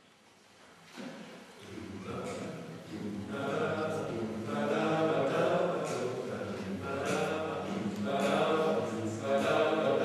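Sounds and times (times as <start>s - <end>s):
choir singing a cappella: 1.6s - 10.0s.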